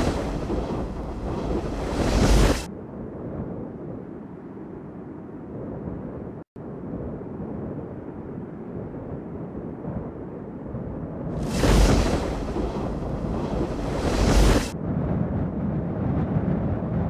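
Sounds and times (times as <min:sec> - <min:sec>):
low rumbling wind: 0:00.0 - 0:17.0.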